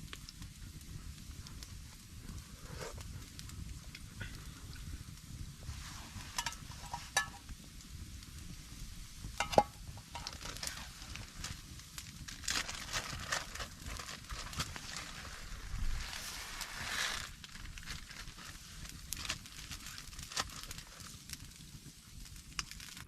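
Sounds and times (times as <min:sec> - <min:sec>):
steady low rumble: 0:00.0 - 0:20.3
light rustling and crackling: 0:00.0 - 0:23.0.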